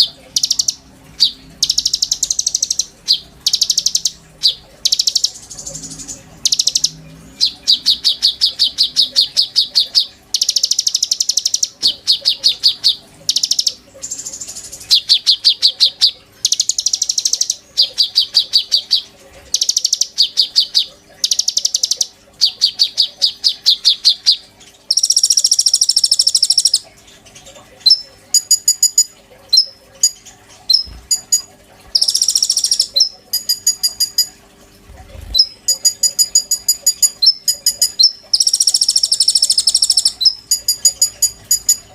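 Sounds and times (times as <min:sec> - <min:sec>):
songbird trilling and whistling: 0:00.0 - 0:26.8, 0:27.8 - 0:34.3, 0:35.2 - 0:41.9.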